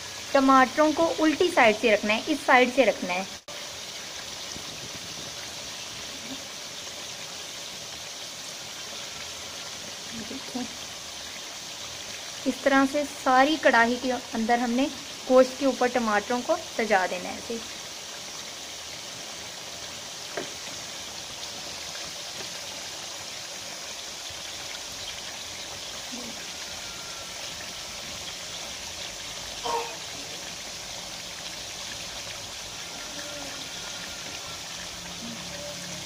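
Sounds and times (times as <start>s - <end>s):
chicken sizzling in a pan: 0.0s - 36.0s.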